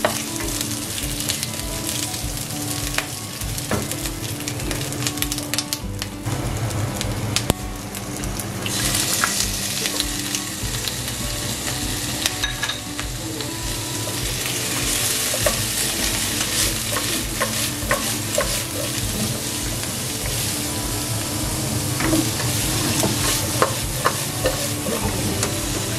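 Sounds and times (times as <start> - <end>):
vegetables sizzling in oil: 0.0 - 25.9.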